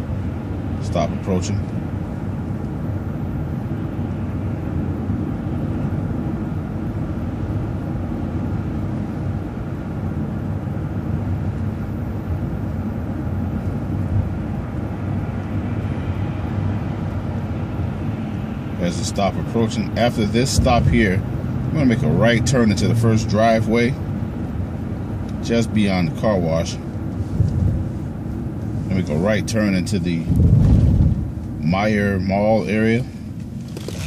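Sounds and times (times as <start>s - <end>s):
bus engine drone: 0.0s - 34.0s
road noise: 0.0s - 34.0s.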